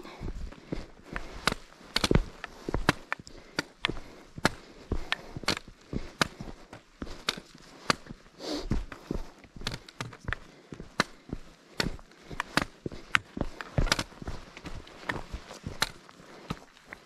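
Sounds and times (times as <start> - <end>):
footsteps on trail: 0.0 - 17.0.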